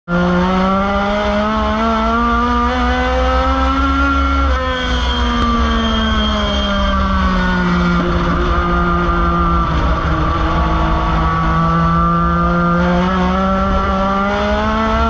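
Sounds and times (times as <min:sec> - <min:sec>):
race car engine revving: 0:00.1 - 0:15.0.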